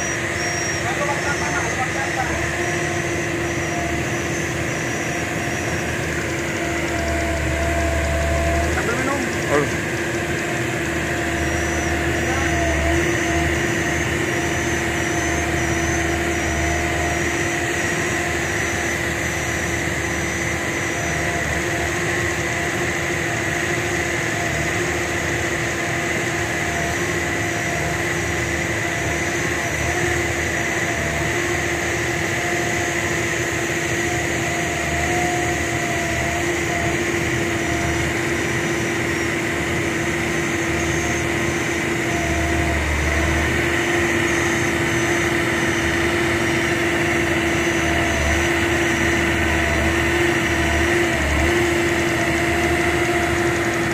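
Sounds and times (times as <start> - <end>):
excavator diesel engine running: 0.0 - 53.9
steady whining tones: 0.0 - 53.9.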